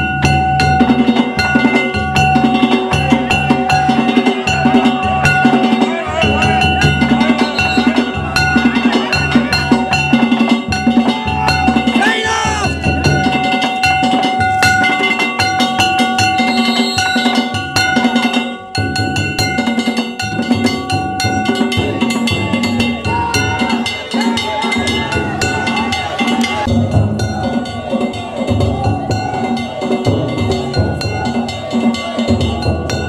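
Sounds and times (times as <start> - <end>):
drum beating fast rhythm: 0.0 - 33.0.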